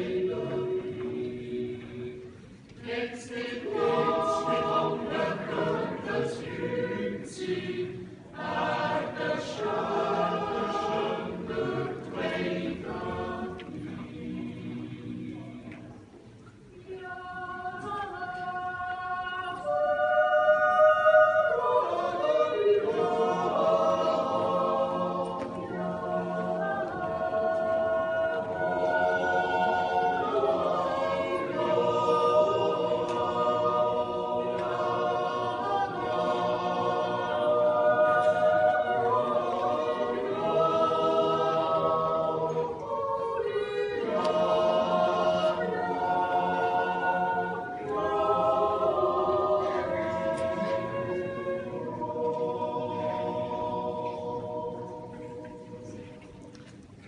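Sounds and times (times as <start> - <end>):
mixed choir singing unaccompanied: 0.0 - 16.0, 16.8 - 56.7.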